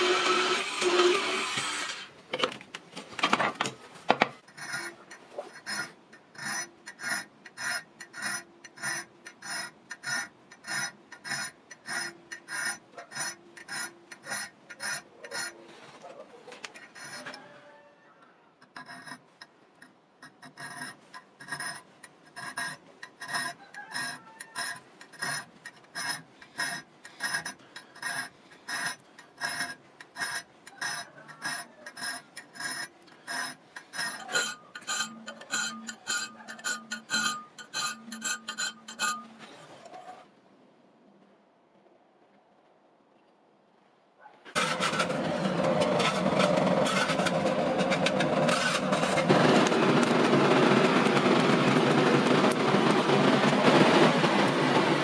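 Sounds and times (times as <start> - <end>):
file scraping steel blade: 4.4 - 17.9, 18.6 - 40.2, 44.5 - 54.6.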